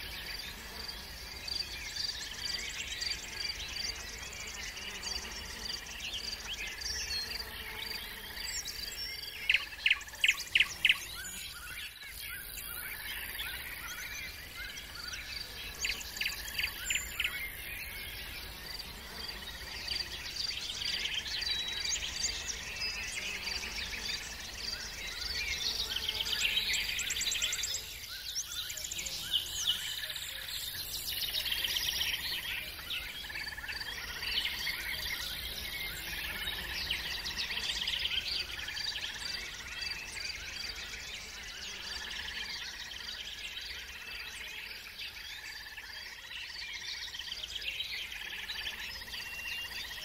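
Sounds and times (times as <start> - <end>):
birds singing and calling: 0.0 - 50.0.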